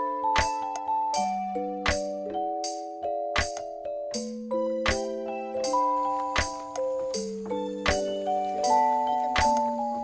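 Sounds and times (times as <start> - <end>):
bell-like melody over steady beat: 0.0 - 10.0.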